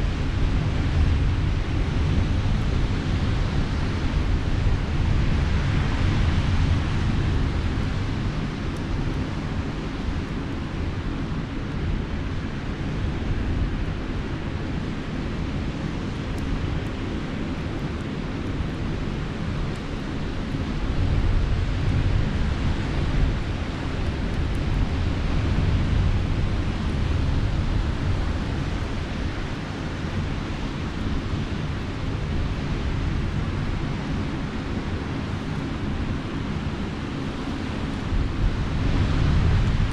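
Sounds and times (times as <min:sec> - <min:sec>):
campfire crackling: 0:00.0 - 0:39.9
surf washing on shore: 0:00.0 - 0:39.9
wind rumbling on microphone: 0:00.0 - 0:39.9.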